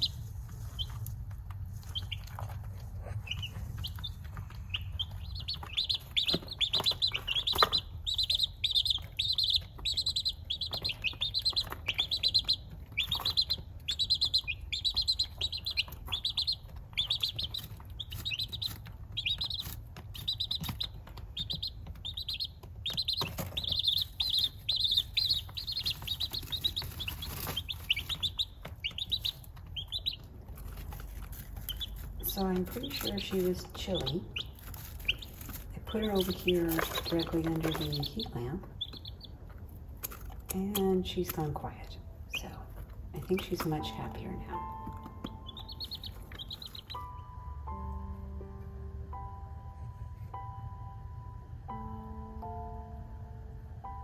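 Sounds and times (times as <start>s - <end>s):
baby chick peeping: 0.0s - 54.0s.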